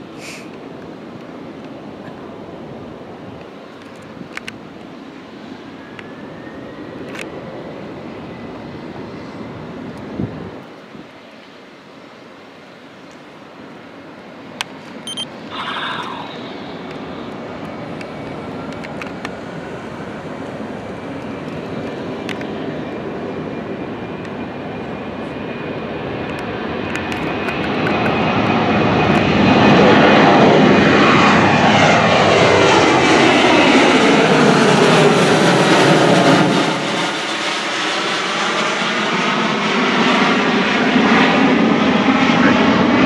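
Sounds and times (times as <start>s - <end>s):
jet engines at takeoff: 0.0s - 43.0s.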